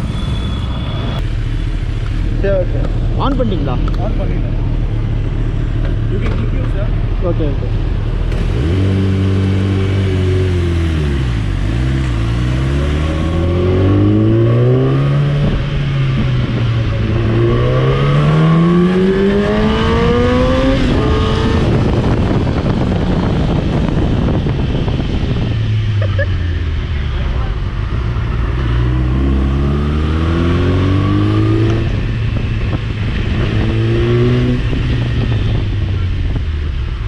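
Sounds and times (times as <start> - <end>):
motorcycle engine accelerating: 1.0 - 37.0.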